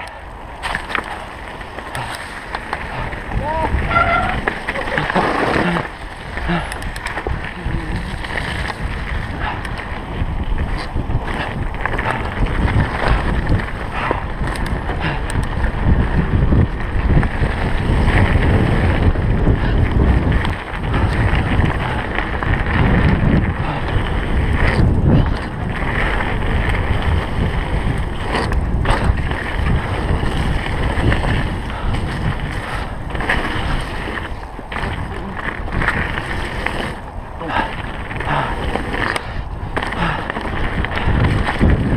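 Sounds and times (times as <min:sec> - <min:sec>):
bike knocking and clattering: 0:00.0 - 0:41.9
bike tyre noise on dirt: 0:00.0 - 0:41.9
wind buffeting microphone: 0:00.0 - 0:41.9.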